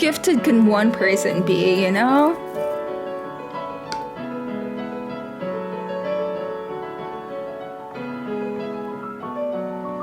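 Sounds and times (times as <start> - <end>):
piano playing slow chords: 0.0 - 10.0.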